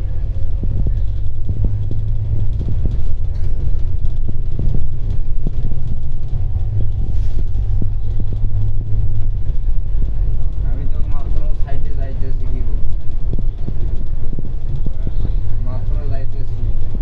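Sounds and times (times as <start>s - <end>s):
bus engine and road rumble: 0.0s - 17.0s
light rattling ticks: 0.2s - 17.0s.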